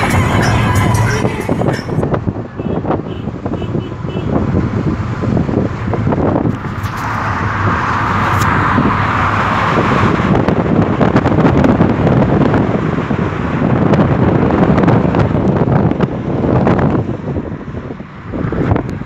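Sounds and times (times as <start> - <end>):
car road and engine noise: 0.0 - 19.0
wind rushing over microphone: 0.0 - 19.0.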